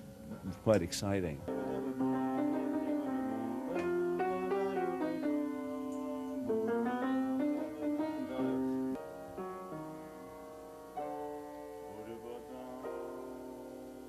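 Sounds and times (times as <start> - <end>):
sustained keyboard chords: 0.0 - 14.0.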